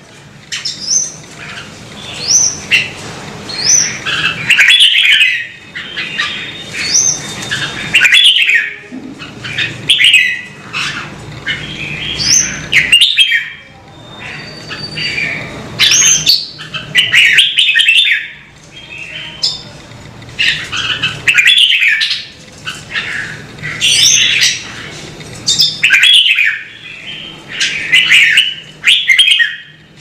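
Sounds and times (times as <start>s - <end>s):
bird singing whistles and warbles: 0.6s - 19.7s, 20.4s - 29.8s.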